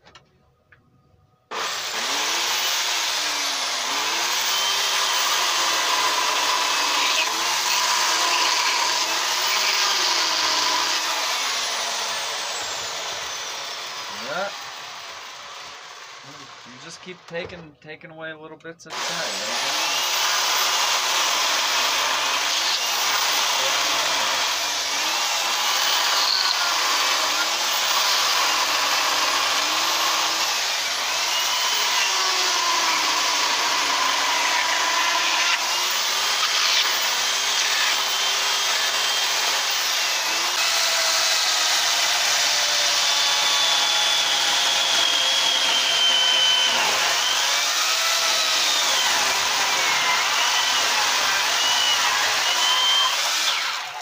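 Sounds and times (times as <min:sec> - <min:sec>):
electric chainsaw cutting wood: 0:01.5 - 0:17.0, 0:18.9 - 0:54.0.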